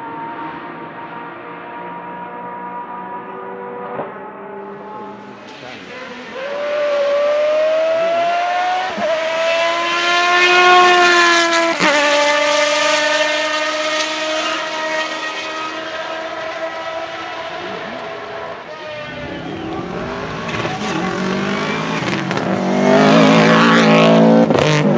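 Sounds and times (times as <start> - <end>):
car engine accelerating hard: 0.0 - 24.9.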